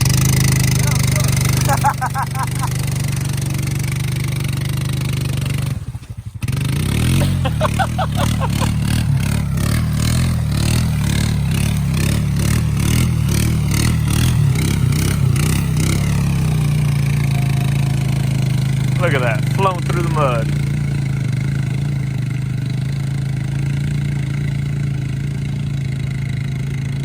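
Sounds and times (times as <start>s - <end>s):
atv engine under load: 0.0s - 27.0s.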